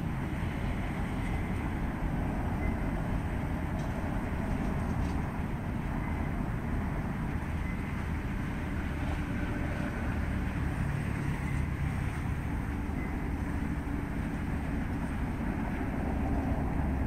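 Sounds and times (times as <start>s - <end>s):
low rumbling noise: 0.0s - 17.0s.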